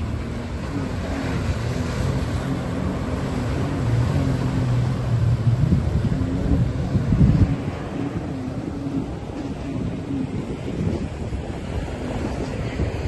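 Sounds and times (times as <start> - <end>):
watercraft engine running: 0.0 - 13.0
wind buffeting microphone: 0.0 - 13.0.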